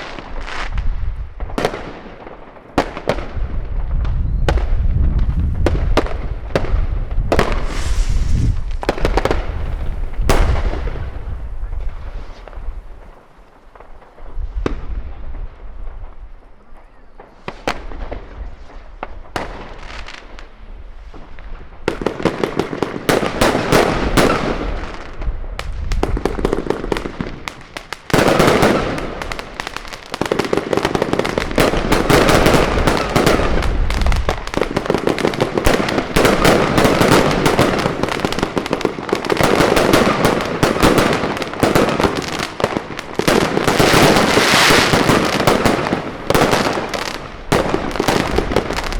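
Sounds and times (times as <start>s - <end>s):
fireworks bangs and crackle: 0.0s - 48.9s.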